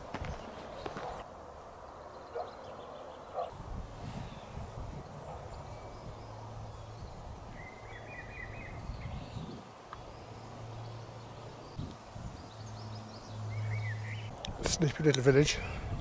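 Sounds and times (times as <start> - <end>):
bird chirping: 0.0 - 3.6, 4.2 - 16.0.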